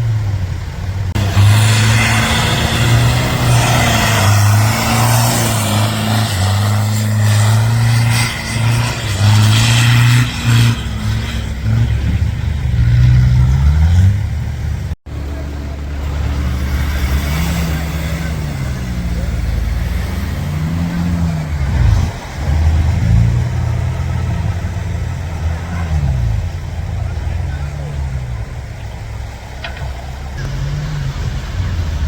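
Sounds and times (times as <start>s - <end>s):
off-road engines revving: 0.0s - 32.0s.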